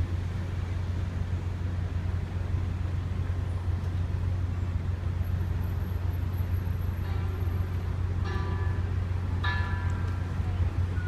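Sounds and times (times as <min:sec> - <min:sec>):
ferry engines droning: 0:00.0 - 0:11.0.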